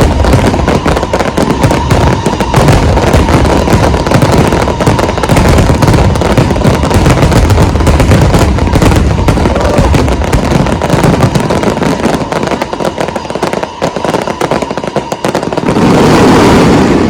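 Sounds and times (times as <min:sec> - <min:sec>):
fireworks crackling bursts: 0:00.0 - 0:17.0
fireworks deep booms: 0:00.0 - 0:17.0.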